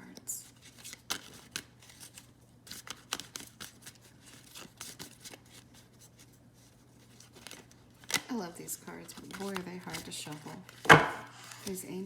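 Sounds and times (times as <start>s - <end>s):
cards being shuffled: 0.5s - 8.3s, 9.0s - 11.8s.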